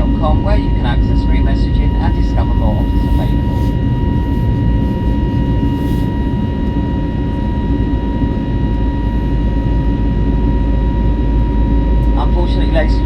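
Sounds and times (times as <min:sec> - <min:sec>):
engine and airflow rumble: 0:00.0 - 0:13.0
thin high whine: 0:00.0 - 0:13.0.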